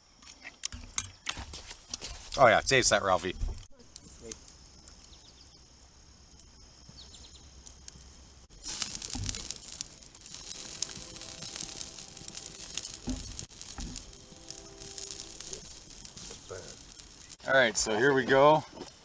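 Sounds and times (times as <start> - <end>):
insects chirping: 0.0 - 19.0
campfire crackling and popping: 0.2 - 19.0.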